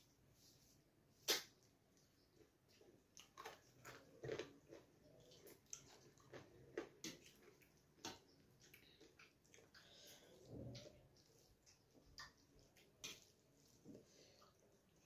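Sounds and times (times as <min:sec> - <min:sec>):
fingers mixing wet rice: 0:01.3 - 0:15.0
quiet chewing: 0:01.3 - 0:15.0.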